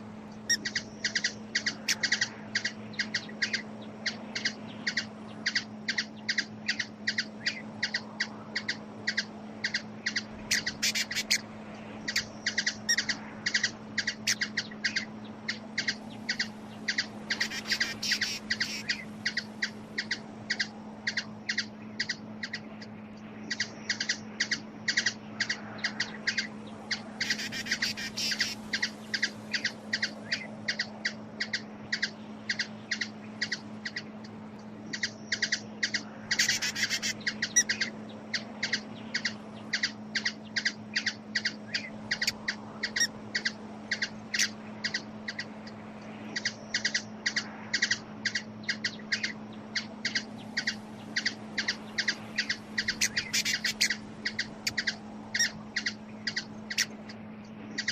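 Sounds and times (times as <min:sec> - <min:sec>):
rapid twittering: 0:00.0 - 0:57.9
steady low hum: 0:00.0 - 0:57.9
hummingbird chip calls: 0:00.3 - 0:11.4, 0:12.0 - 0:57.9.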